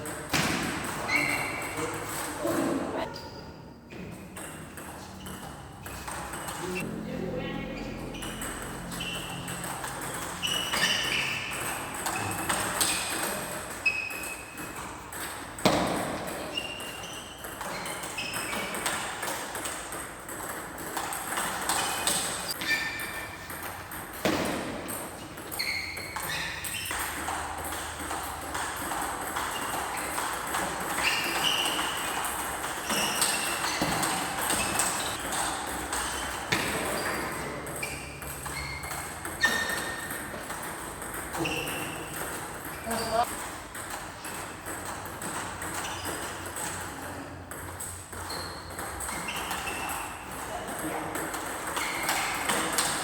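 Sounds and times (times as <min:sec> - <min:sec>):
shoes squeaking on court floor: 0:00.0 - 0:06.9, 0:07.7 - 0:53.0.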